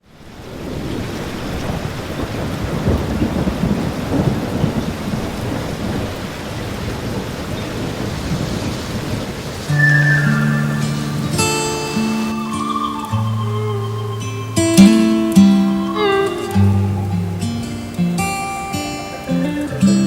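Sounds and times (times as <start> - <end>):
rain falling: 0.0 - 20.0
thunder rumbling: 0.4 - 19.2.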